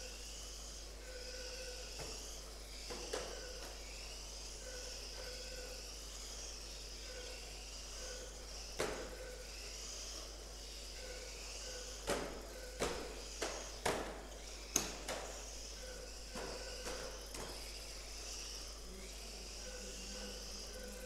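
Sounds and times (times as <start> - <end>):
rc car motors whining: 0.0 - 21.0.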